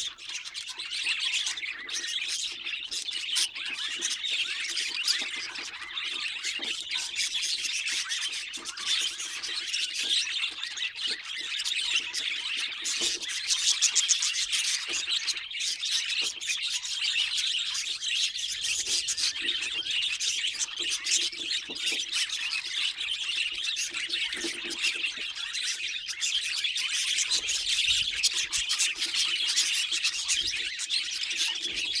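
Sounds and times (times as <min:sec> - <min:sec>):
budgerigar warbling and chattering: 0:00.0 - 0:32.0.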